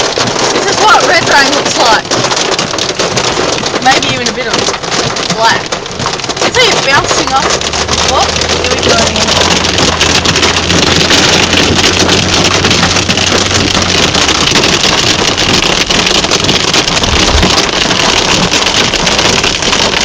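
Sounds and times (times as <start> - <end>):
heavy rain pouring: 0.0 - 20.0
wind buffeting microphone: 3.1 - 20.0.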